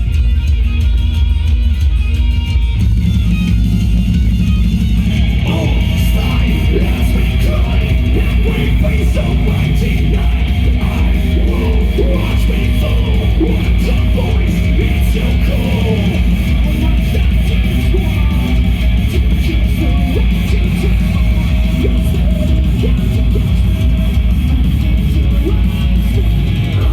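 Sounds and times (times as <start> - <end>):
live heavy metal band: 0.0 - 26.9.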